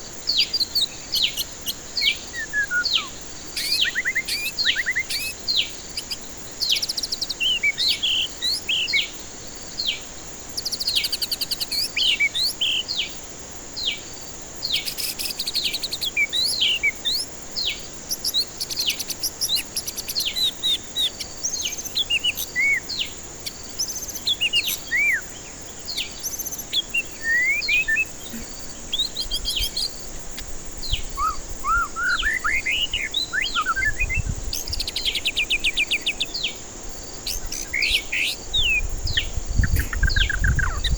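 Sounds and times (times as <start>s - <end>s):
bird singing trills: 0.0s - 9.1s, 14.6s - 36.6s, 37.2s - 40.9s
steady high hiss: 0.0s - 40.9s.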